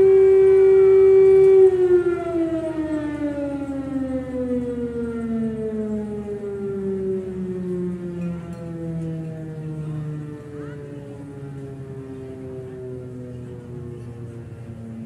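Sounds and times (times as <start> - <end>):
air-raid siren winding down: 0.0 - 15.0.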